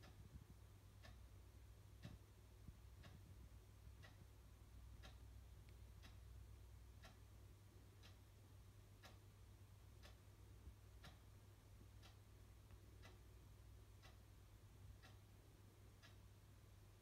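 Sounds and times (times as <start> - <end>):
faint clock ticks: 0.0 - 17.0
low steady hum: 0.0 - 17.0.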